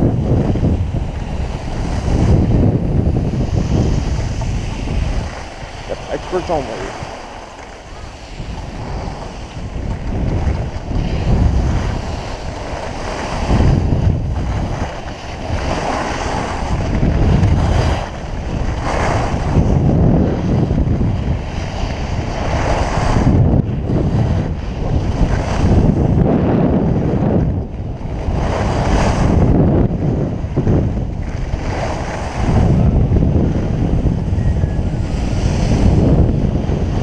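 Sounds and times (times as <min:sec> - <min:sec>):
wind on microphone: 0:00.0 - 0:37.0.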